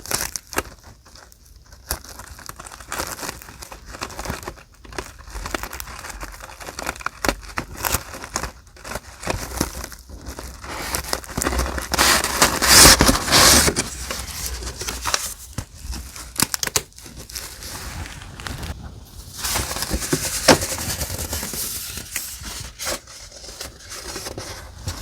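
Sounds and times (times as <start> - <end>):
paper crinkling and rustling: 0.0 - 25.0.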